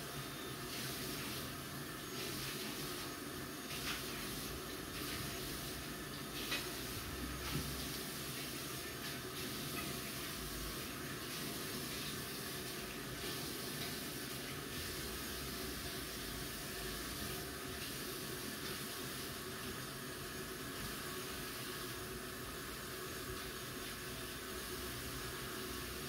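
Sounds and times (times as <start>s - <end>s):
tap water running into basin: 0.0s - 26.0s.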